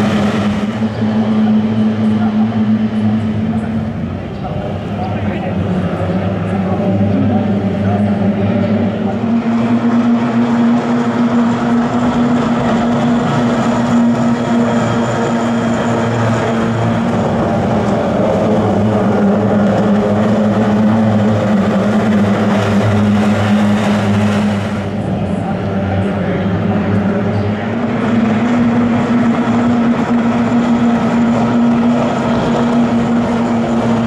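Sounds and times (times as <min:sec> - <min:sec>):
racing boat engines buzzing: 0:00.0 - 0:34.0.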